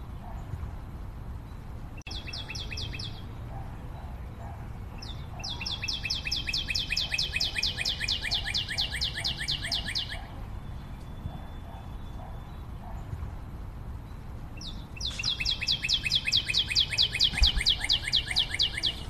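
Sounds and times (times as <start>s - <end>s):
songbird trilling: 2.1s - 13.1s, 14.0s - 19.0s.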